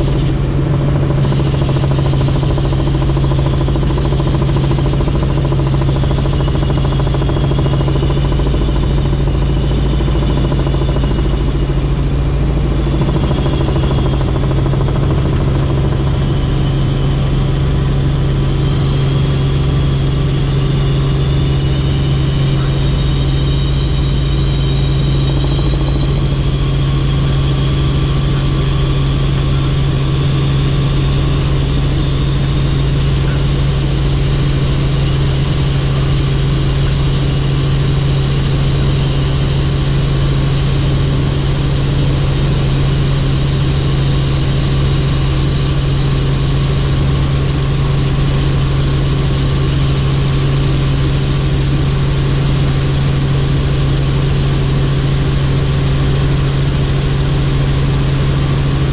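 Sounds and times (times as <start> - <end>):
helicopter drone and whine: 0.0 - 58.9.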